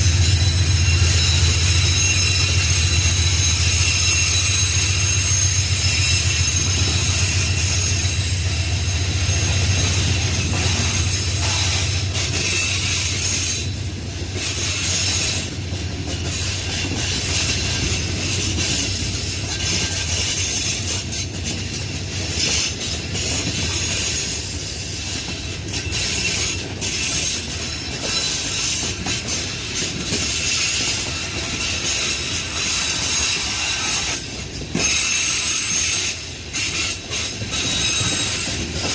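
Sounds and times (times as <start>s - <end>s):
diesel locomotive rumble: 0.0s - 38.9s
rail clatter: 0.0s - 38.9s
train wheel squeal: 0.0s - 38.9s.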